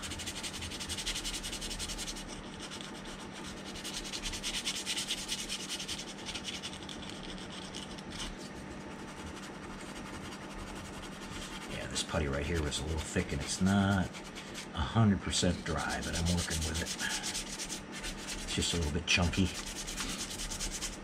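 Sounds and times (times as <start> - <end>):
sandpaper rubbing on plastic: 0.0 - 14.7, 15.4 - 21.0.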